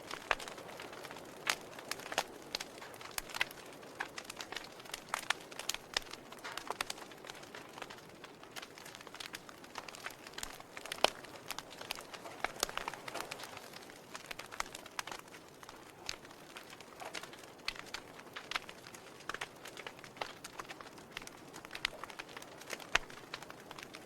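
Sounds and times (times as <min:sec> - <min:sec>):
logs crackling in fireplace: 0:00.0 - 0:24.0.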